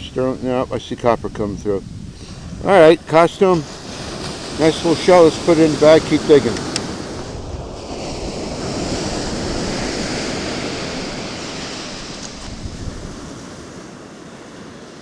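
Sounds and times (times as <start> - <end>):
wind rumbling on microphone: 0.0 - 14.4
wave washing up beach: 2.2 - 15.0.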